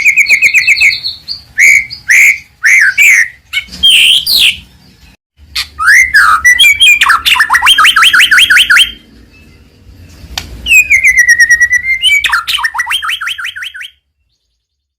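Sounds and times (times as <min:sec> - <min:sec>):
bird singing whistles: 0:00.0 - 0:04.6, 0:05.6 - 0:09.6, 0:10.6 - 0:14.9.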